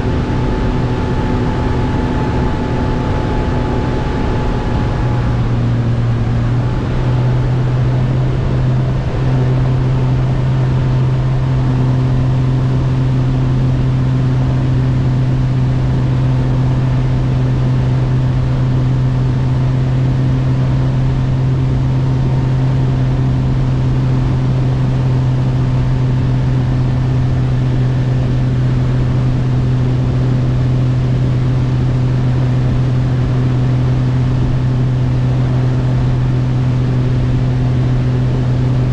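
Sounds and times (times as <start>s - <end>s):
outboard motor drone: 0.0s - 38.9s.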